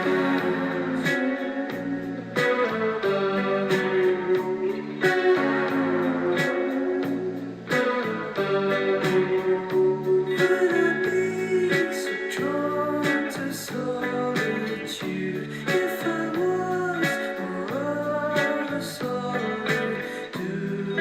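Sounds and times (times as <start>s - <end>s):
guitar music with beat: 0.0s - 21.0s.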